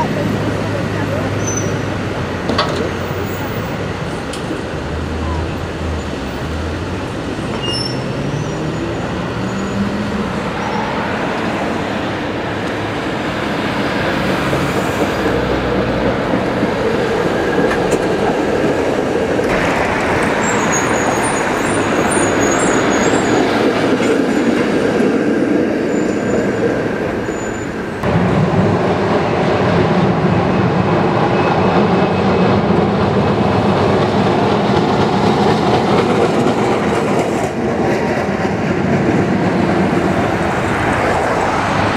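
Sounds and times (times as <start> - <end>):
street traffic: 0.0 - 41.9
streetcar wheels rumbling on rails: 0.0 - 41.9.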